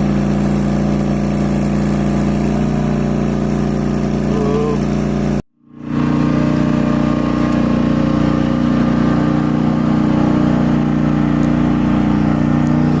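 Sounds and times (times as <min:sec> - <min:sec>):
loader engine running steadily: 0:00.0 - 0:13.0.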